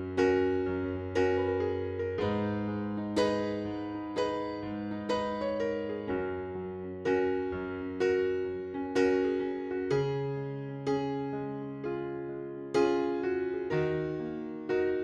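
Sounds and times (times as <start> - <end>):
soft electric piano chords: 0.0 - 15.0.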